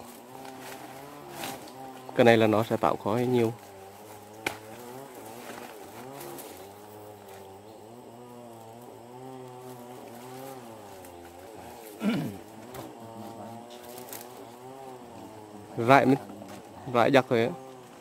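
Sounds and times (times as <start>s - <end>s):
bee flying past: 0.0s - 18.0s
bees buzzing: 0.0s - 18.0s.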